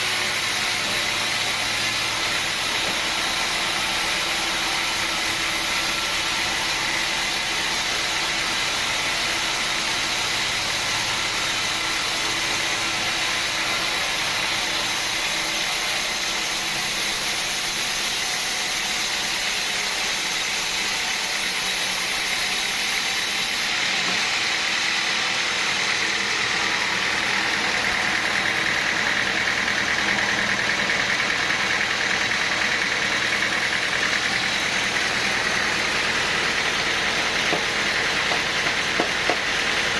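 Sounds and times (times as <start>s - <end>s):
sawmill machinery drone with whine: 0.0s - 39.9s.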